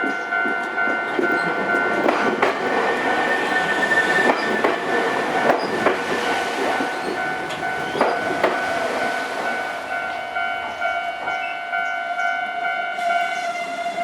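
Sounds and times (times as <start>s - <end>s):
train wheels clacking on rail joints: 0.0s - 11.9s
steady high tone: 0.1s - 13.3s.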